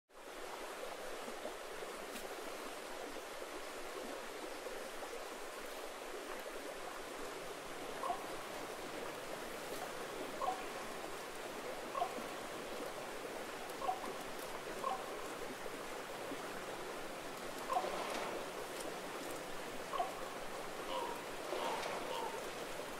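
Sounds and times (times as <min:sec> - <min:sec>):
stream running over rocks: 0:00.1 - 0:22.9.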